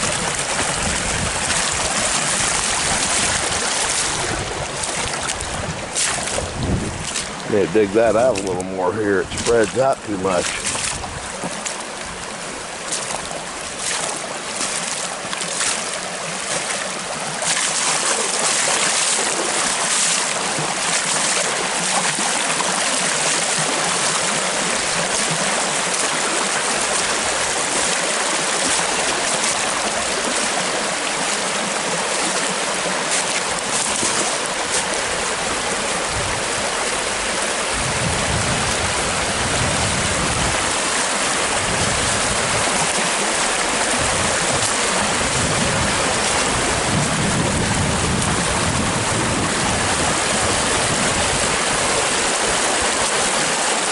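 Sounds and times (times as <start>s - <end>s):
water rushing over spillway: 0.0s - 53.9s.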